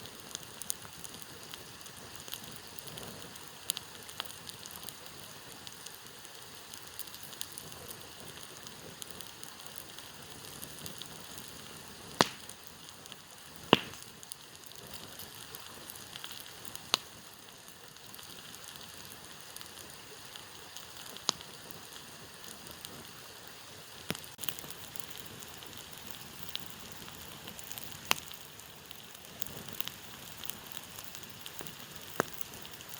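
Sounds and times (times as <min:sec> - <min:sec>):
campfire hissing: 0:00.0 - 0:32.9
wood popping in fire: 0:00.0 - 0:32.9.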